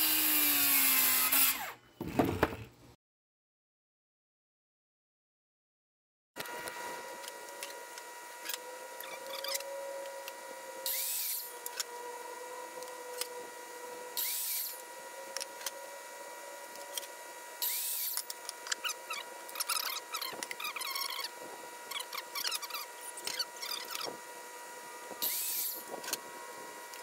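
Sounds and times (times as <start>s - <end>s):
miter saw cutting wood: 0.0s - 2.6s, 6.4s - 27.0s.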